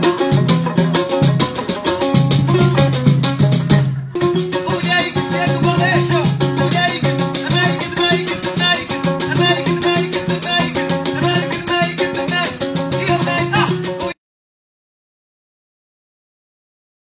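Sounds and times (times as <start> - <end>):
music with quick steady beat: 0.0 - 14.2.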